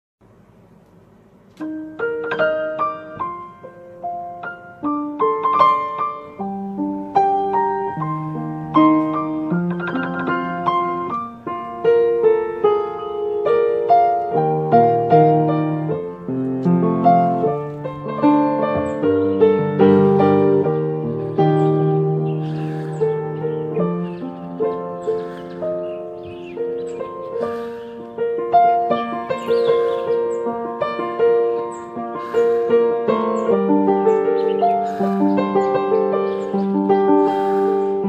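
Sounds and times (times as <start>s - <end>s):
slow piano music: 0.3s - 38.0s.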